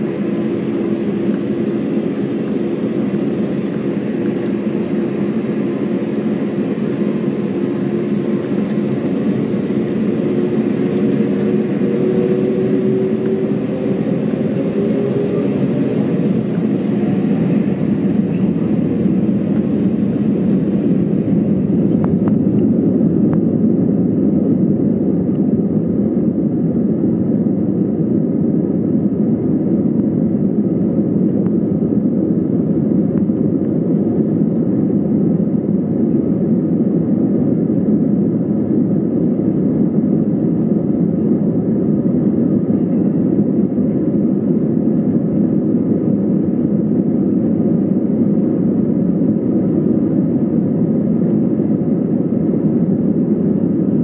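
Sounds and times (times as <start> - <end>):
airplane cabin rumble while taxiing: 0.0 - 54.0.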